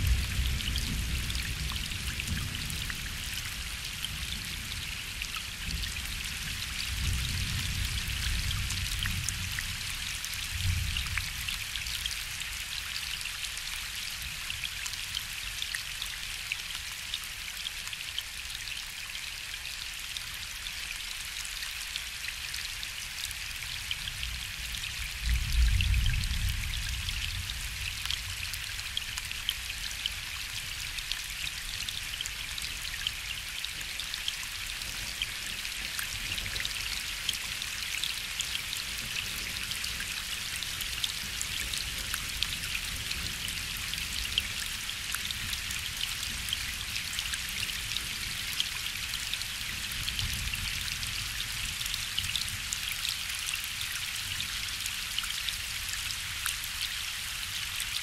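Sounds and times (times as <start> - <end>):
rain falling on a lake: 0.0 - 58.0.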